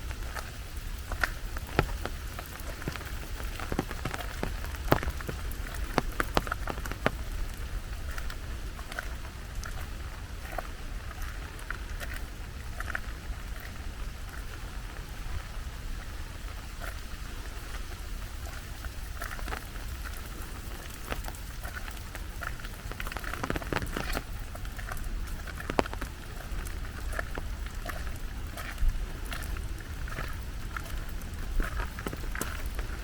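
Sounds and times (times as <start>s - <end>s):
steady rainfall: 0.0s - 33.0s
water drips and splashes: 0.0s - 33.0s.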